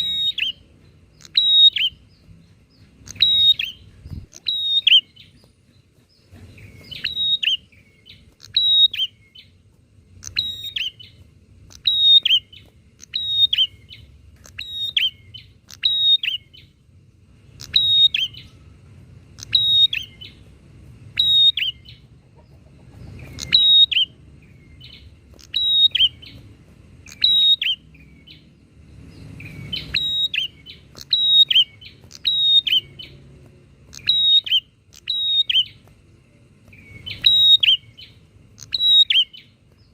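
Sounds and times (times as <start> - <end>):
high sharp bird chirps: 0.0 - 36.0, 36.7 - 39.9
faint low hum: 0.0 - 39.9.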